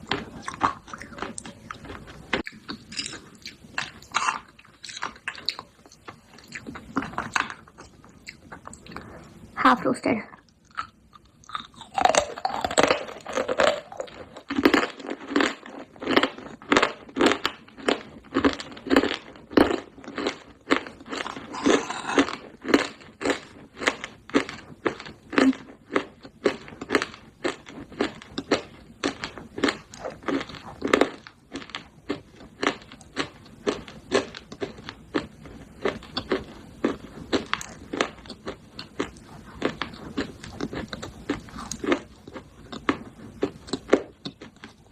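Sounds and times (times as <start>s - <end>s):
crisp chewing crunches: 0.0s - 9.4s, 10.4s - 44.9s.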